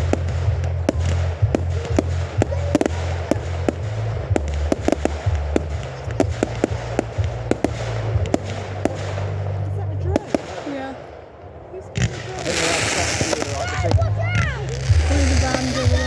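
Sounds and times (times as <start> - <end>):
fireworks bangs and cracks: 0.0 - 16.0
low rumble: 0.0 - 16.0.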